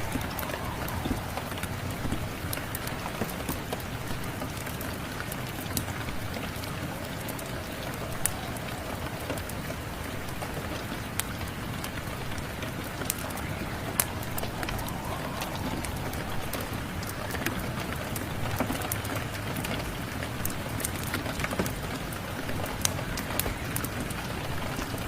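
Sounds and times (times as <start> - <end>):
steady rain falling: 0.0 - 25.0
wood fire crackling: 0.0 - 25.0.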